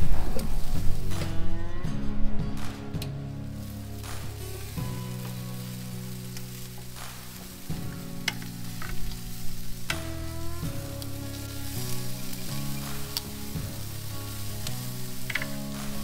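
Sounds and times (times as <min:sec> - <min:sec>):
chicken sizzling on grill: 0:00.0 - 0:01.8, 0:03.4 - 0:16.0
background music: 0:00.0 - 0:16.0.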